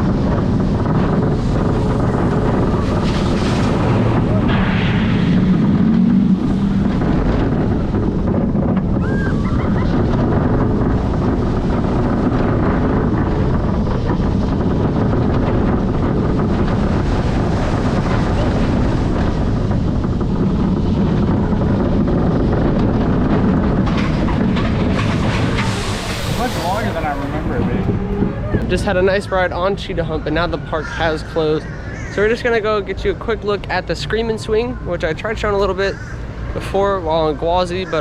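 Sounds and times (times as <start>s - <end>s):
roller coaster rumbling on track: 0.0s - 38.0s
wind over microphone: 0.0s - 38.0s.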